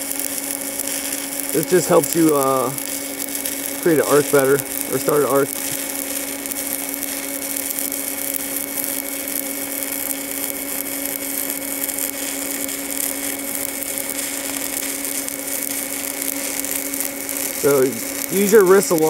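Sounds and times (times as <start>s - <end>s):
steady low hum: 0.0s - 19.0s
welding arc crackling hiss: 0.0s - 19.0s.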